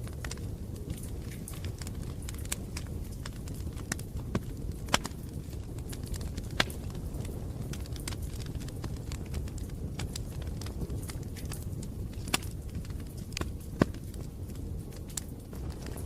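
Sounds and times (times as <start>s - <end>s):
bonfire rumble: 0.0s - 16.0s
fire crackles and pops: 0.0s - 16.0s.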